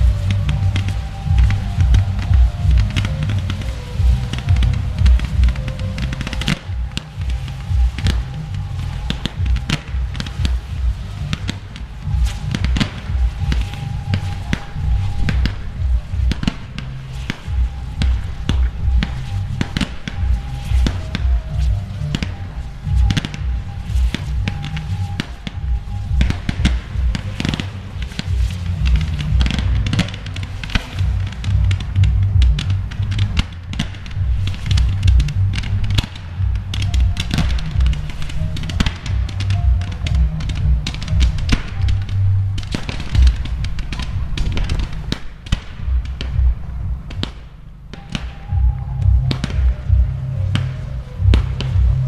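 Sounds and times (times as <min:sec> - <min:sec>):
fireworks bangs and crackles: 0:00.0 - 0:52.0
loud music with bass beat: 0:00.0 - 0:52.0
low rumble: 0:00.0 - 0:52.0.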